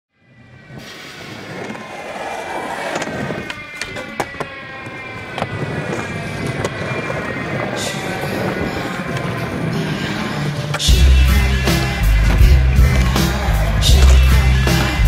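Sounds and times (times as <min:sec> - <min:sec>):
skateboard wheels rolling on concrete: 0:00.2 - 0:15.0.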